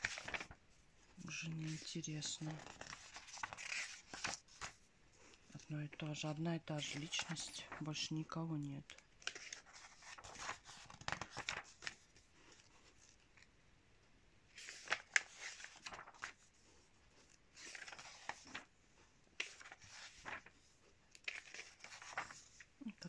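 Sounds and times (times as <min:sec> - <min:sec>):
magazine pages turning: 0:00.0 - 0:05.7, 0:06.8 - 0:08.2, 0:08.9 - 0:13.5, 0:14.5 - 0:22.8.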